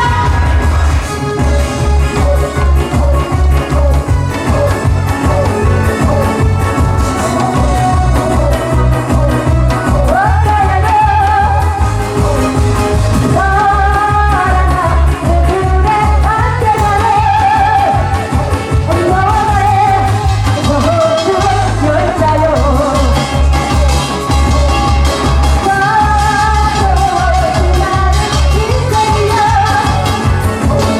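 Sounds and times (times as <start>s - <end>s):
amplified music with heavy bass: 0.0s - 30.9s
person singing: 0.0s - 30.9s.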